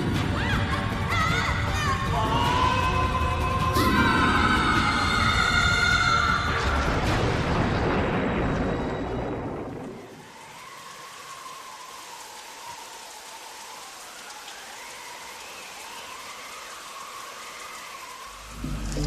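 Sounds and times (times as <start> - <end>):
rain-like hiss: 0.0 - 19.0.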